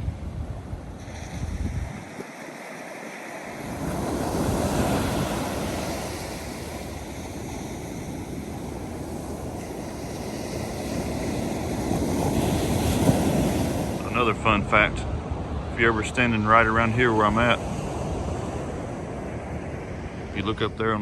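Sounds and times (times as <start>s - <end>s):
wind buffeting microphone: 0.0s - 2.5s, 3.6s - 21.0s
ocean surf breaking on beach: 0.0s - 21.0s.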